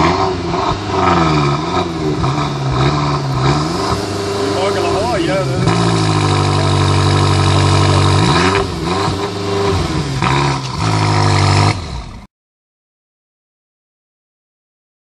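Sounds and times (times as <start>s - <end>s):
car engine revving: 0.0s - 12.3s.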